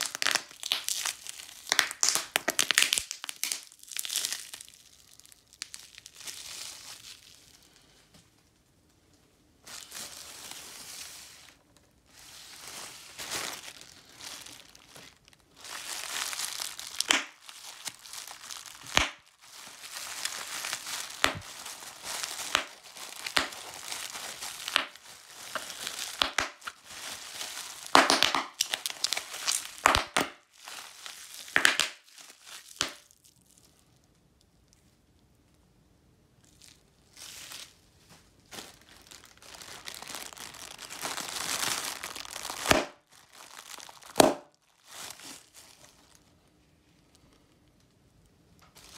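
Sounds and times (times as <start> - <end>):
bubble wrap popping: 0.0 - 8.2, 9.6 - 33.7, 36.4 - 46.4, 48.6 - 48.9
bubble wrap crinkling: 0.0 - 35.6, 36.4 - 48.9.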